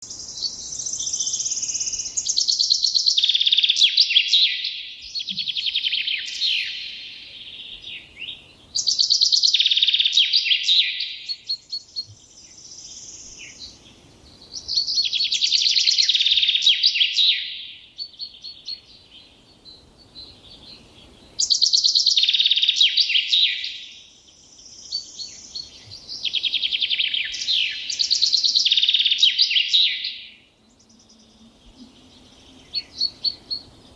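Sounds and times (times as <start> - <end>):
songbird singing trills: 0.0 - 33.9.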